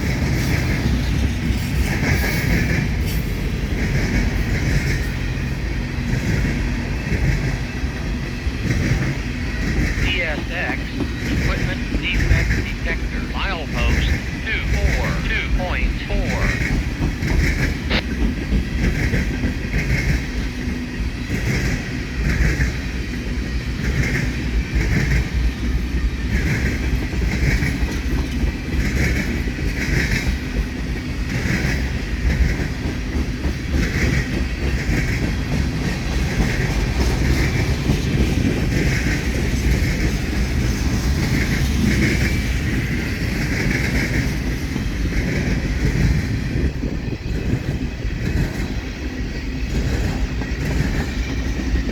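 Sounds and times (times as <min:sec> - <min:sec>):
train wheels rumbling: 0:00.0 - 0:51.9.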